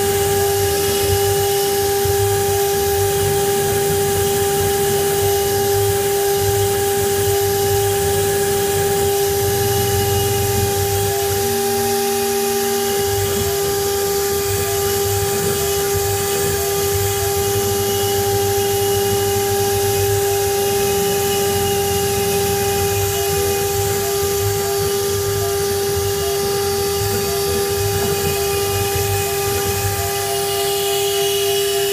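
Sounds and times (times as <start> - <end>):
router spindle whine: 0.0 - 31.9.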